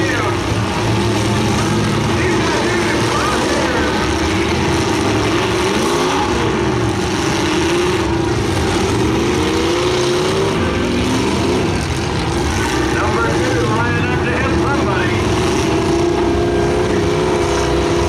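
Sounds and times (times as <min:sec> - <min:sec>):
car engines revving loudly: 0:00.0 - 0:18.0.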